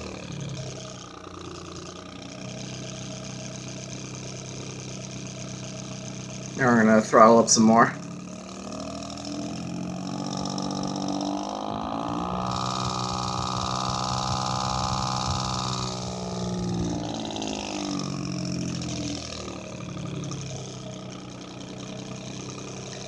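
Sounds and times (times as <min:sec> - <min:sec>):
desk fan buzzing drone: 0:00.0 - 0:23.0.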